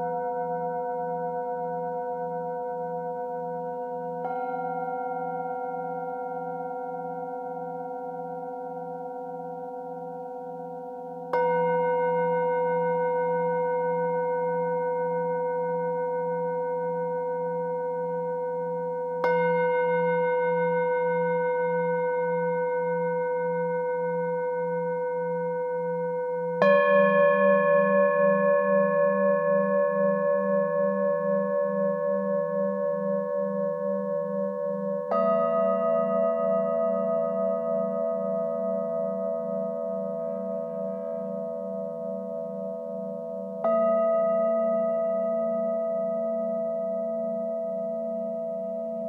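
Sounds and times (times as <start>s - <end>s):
singing bowls struck with mallet: 0.0s - 49.0s.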